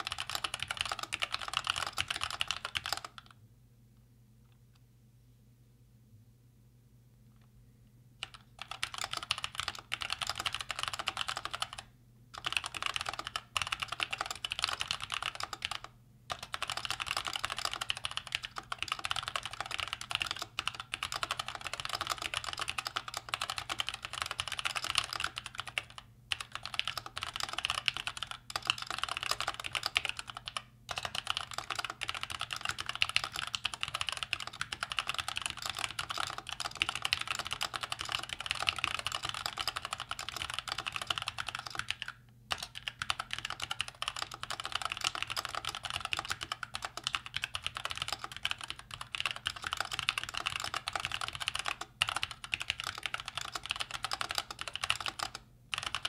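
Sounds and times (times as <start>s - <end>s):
mechanical keyboard typing: 0.0s - 3.4s, 8.2s - 56.0s.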